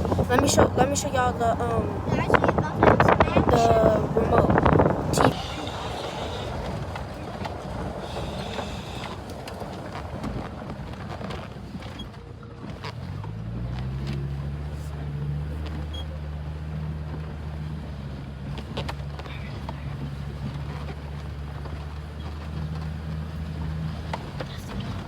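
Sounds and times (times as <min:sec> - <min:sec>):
engine hum: 0:00.0 - 0:25.0
truck road rumble: 0:00.0 - 0:25.0.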